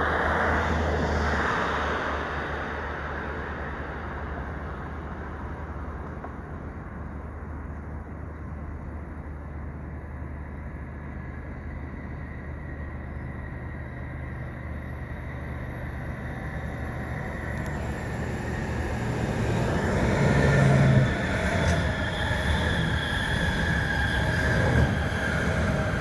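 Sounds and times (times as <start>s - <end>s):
train rumbling into station: 0.0s - 26.0s.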